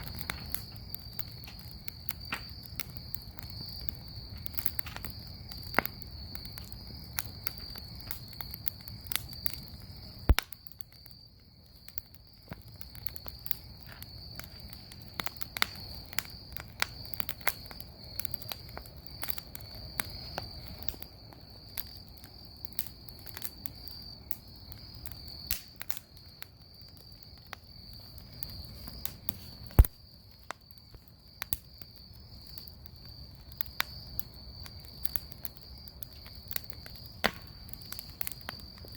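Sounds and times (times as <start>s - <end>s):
bonfire crackling and popping: 0.0s - 38.9s
crickets trilling: 0.0s - 38.9s.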